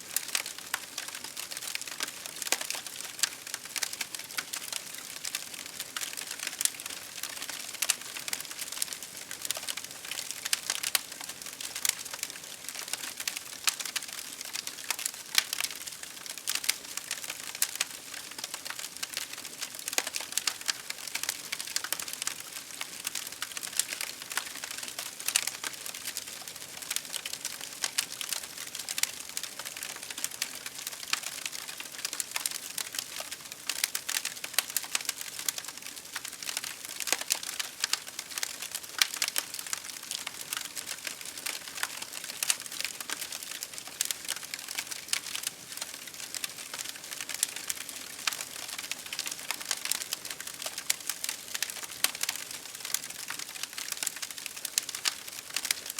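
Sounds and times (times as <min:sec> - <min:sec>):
campfire crackling: 0:00.1 - 0:55.9.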